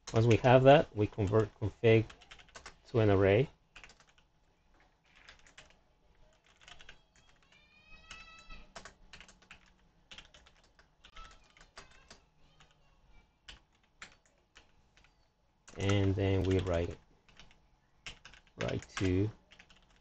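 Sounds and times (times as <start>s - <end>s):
computer keyboard typing: 0.0s - 4.3s, 5.0s - 12.8s, 13.4s - 20.0s.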